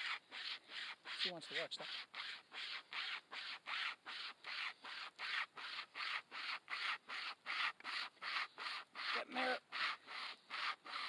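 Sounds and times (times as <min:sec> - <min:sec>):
wire saw rasping through wood: 0:00.0 - 0:11.0.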